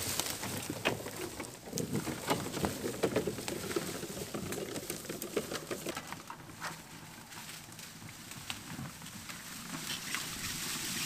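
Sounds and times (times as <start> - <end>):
leaves crackling under tyres: 0.0 - 11.0.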